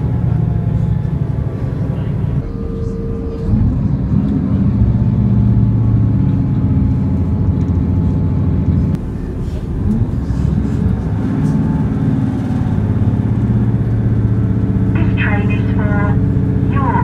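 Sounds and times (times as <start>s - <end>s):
diesel engine droning: 0.0s - 17.0s
train running rumble: 0.0s - 17.0s.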